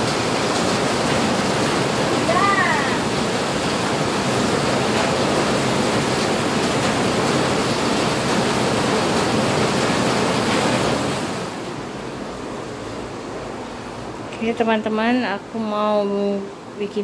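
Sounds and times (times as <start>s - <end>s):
water rushing: 0.0s - 16.9s.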